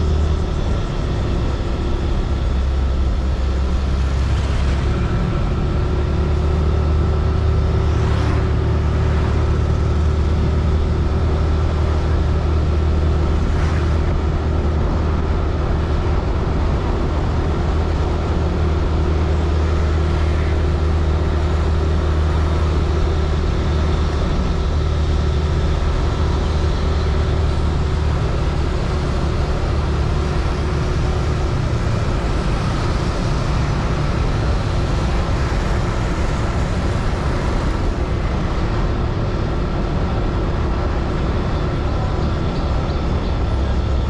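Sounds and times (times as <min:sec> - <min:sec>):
wind and road noise: 0:00.0 - 0:44.0.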